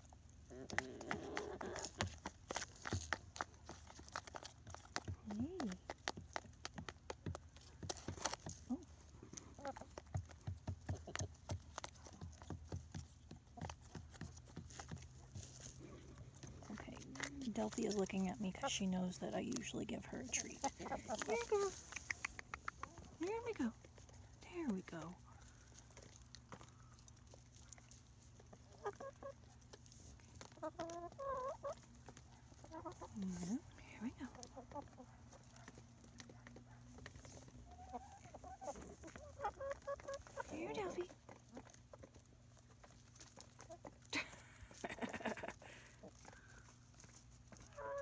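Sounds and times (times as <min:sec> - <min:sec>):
hens pecking plastic tub: 0:00.0 - 0:48.0
chickens clucking: 0:00.4 - 0:05.2, 0:05.9 - 0:48.0.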